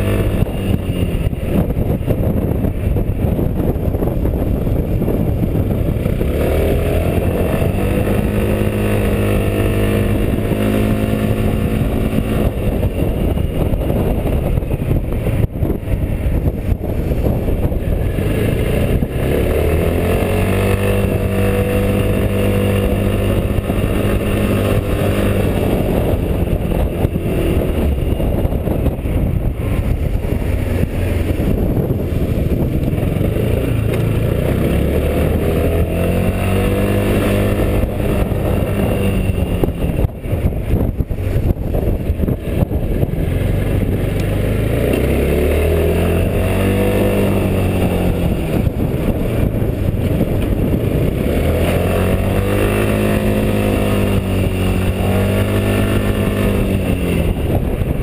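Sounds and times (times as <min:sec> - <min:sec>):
scooter engine revving: 0:00.0 - 0:58.0
wind noise on microphone: 0:00.0 - 0:58.0.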